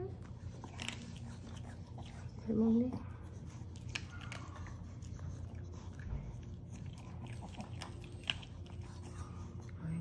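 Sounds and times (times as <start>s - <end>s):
dog chewing food: 0.0s - 10.0s
low steady hum: 0.0s - 10.0s.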